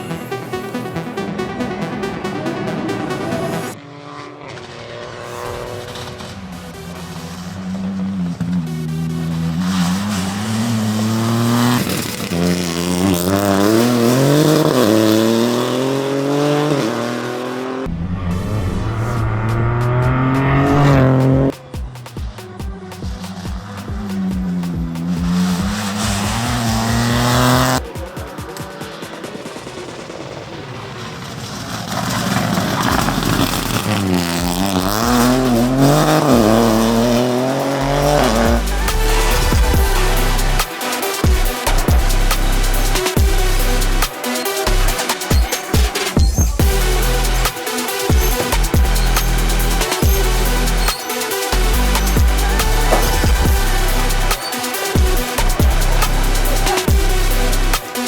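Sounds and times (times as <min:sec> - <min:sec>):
rally car engine accelerating: 0:00.0 - 0:21.6, 0:23.1 - 0:58.0.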